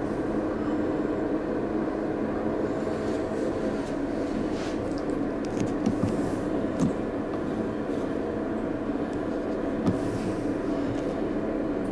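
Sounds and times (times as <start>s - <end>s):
low machine hum: 0.0s - 11.9s.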